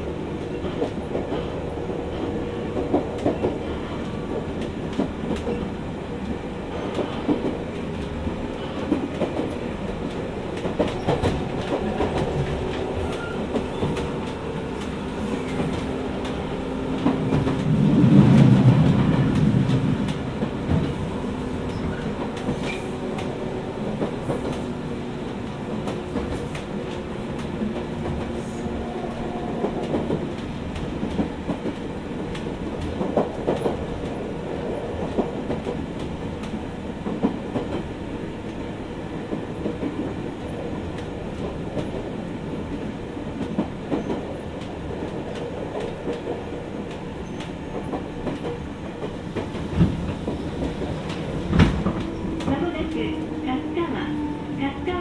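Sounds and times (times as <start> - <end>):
train running hum: 0.0 - 55.0.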